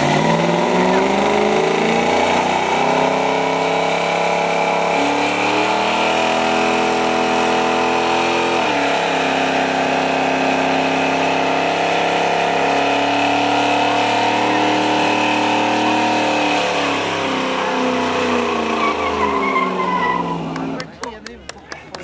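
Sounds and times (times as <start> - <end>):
car engine revving high: 0.0 - 20.9.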